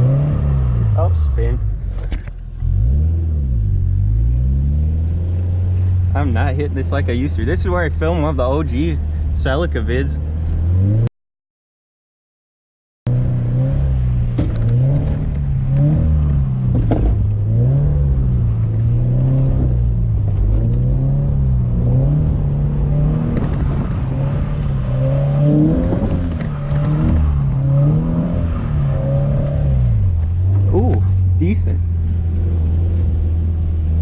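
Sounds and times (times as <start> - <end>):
car engine revving: 0.0 - 11.1, 13.1 - 34.0.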